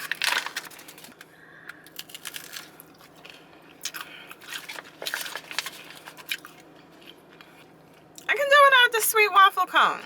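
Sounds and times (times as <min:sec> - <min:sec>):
person chewing crunchy food: 0:00.0 - 0:08.3.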